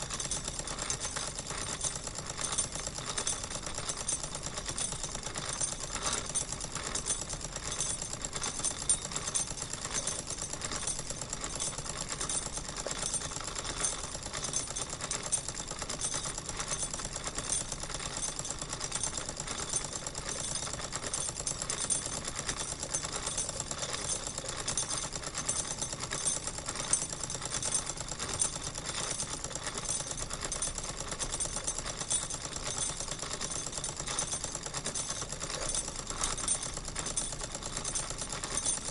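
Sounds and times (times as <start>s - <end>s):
toy steam engine clattering: 0.0s - 38.9s.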